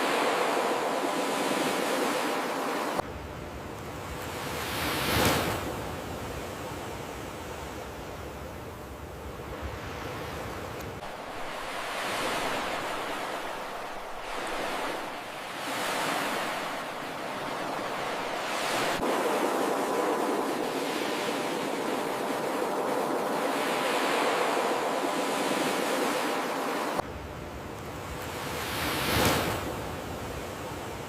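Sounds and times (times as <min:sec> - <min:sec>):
waves breaking on shore: 0:00.0 - 0:03.0, 0:04.0 - 0:08.3, 0:09.2 - 0:27.0, 0:27.9 - 0:31.0.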